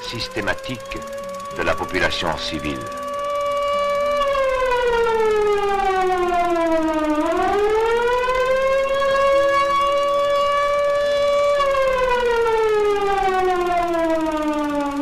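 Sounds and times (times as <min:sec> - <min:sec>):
air-raid siren wailing: 0:00.0 - 0:15.0.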